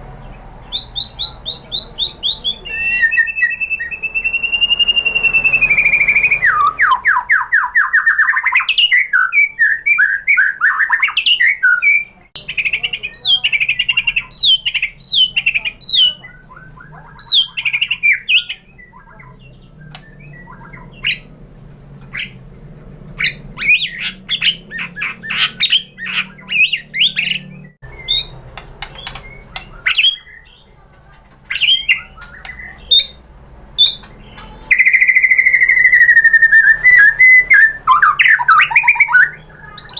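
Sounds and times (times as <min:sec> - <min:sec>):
bird singing whistles and chirps: 0:00.6 - 0:21.3, 0:23.2 - 0:30.7, 0:31.5 - 0:33.2, 0:33.8 - 0:39.9.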